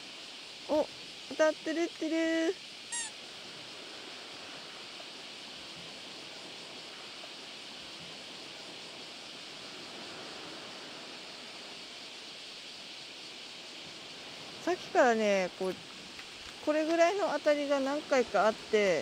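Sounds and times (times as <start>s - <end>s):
sea washing against shore: 2.5s - 19.0s.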